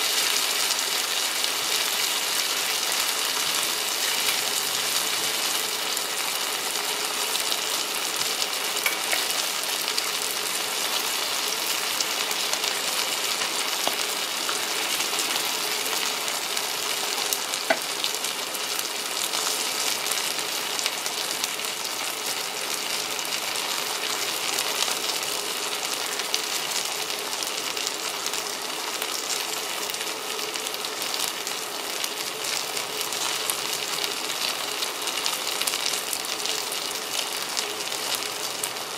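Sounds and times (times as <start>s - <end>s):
steak sizzling in a skillet: 0.0s - 38.9s.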